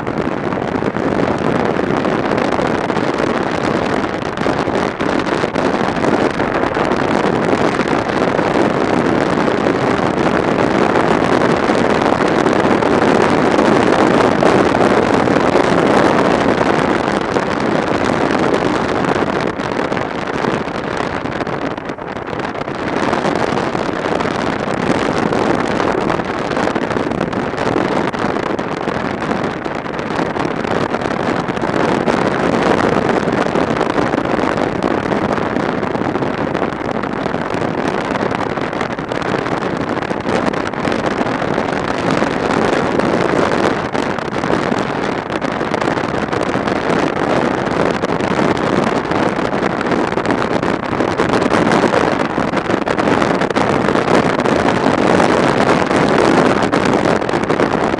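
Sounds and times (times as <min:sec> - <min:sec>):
wind rush over microphone: 0:00.0 - 0:57.9.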